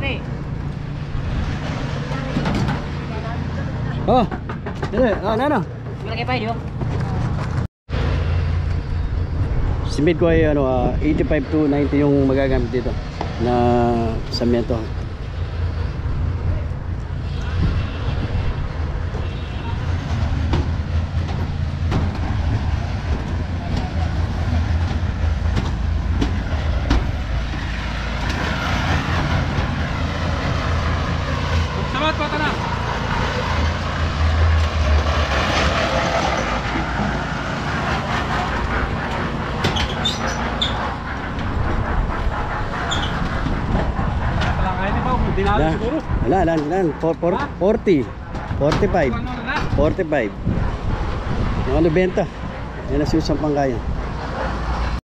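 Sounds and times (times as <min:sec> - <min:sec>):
concrete mixer churning rumble: 0:09.6 - 0:55.0.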